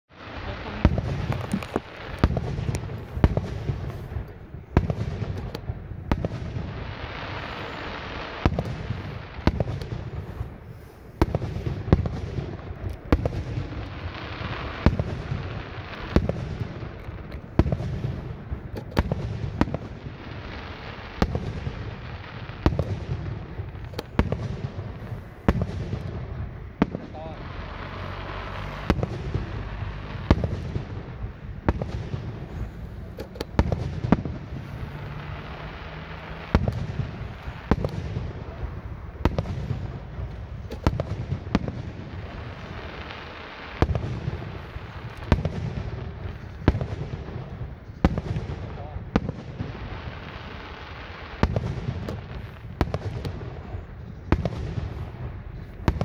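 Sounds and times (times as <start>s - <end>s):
fireworks booming overhead: 0.0s - 56.0s
fireworks crackling hiss: 0.1s - 56.0s.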